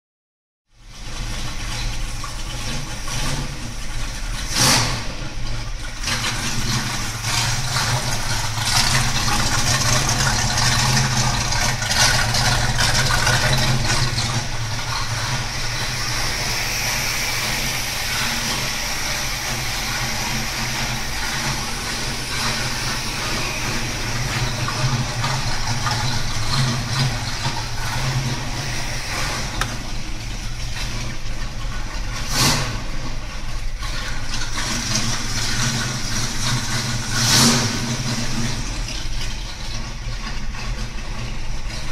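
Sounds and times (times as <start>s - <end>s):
car engine idling: 0.7s - 41.9s.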